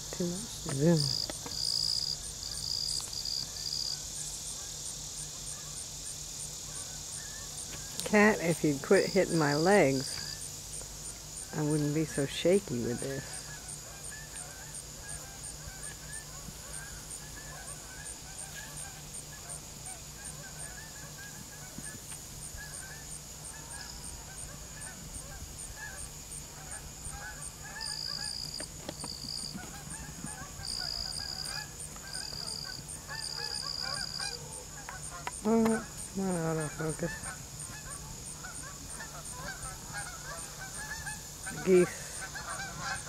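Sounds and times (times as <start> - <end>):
geese honking: 6.6 - 43.0.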